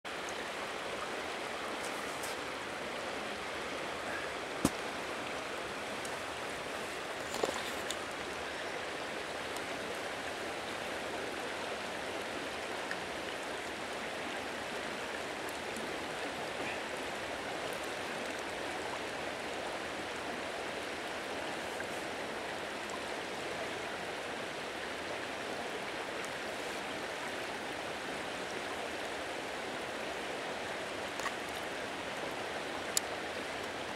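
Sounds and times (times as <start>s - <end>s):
flowing river: 0.1s - 33.9s.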